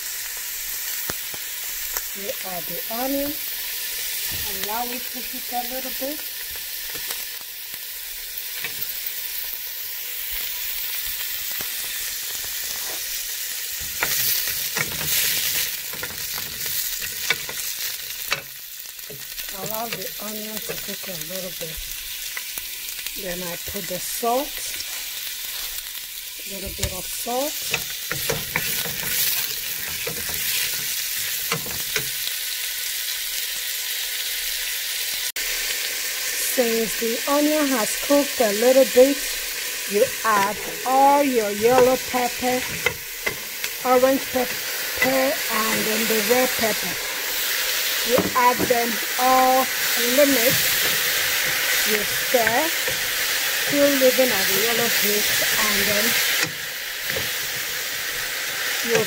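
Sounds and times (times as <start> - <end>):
onion sizzling in oil: 0.0 - 59.0.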